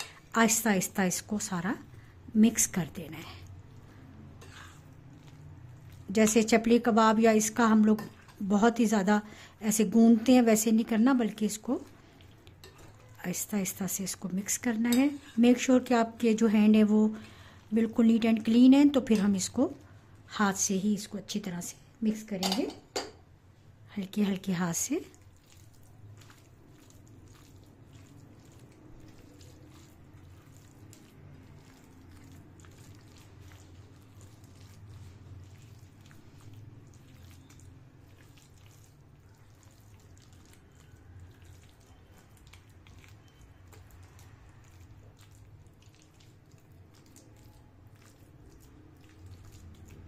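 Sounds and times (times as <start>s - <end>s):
soft squelching of wet mince: 0.0s - 22.5s, 24.3s - 50.0s.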